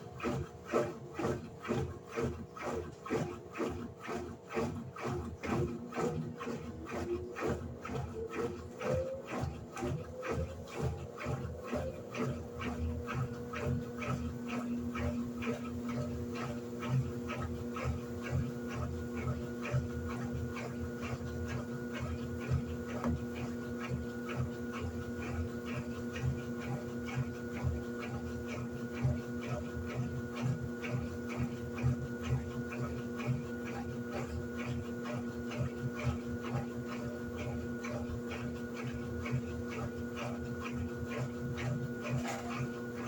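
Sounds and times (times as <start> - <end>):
washing machine motor hum: 0.0 - 43.0.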